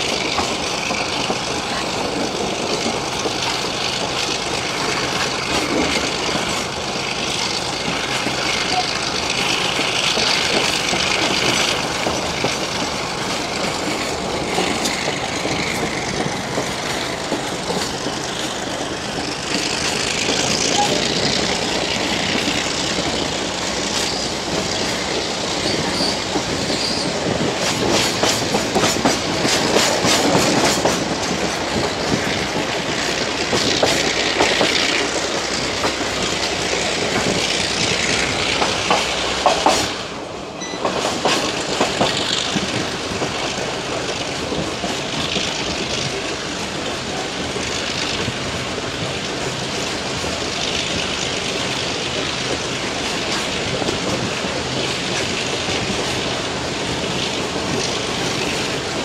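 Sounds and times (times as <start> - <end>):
train wheels and wind rushing: 0.0 - 59.0
wheels clicking over rail joints: 0.0 - 59.0.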